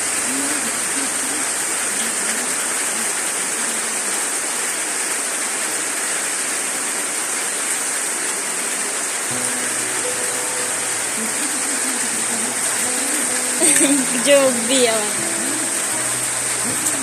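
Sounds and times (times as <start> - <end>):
steady loud hiss: 0.0 - 17.0.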